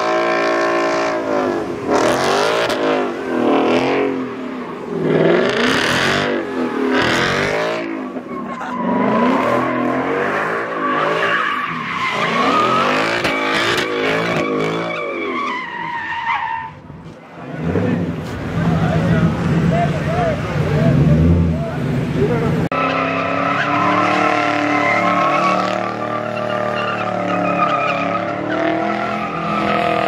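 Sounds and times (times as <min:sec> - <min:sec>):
car engine revving: 0:00.0 - 0:15.4, 0:16.8 - 0:30.0
tires squealing: 0:00.0 - 0:30.0.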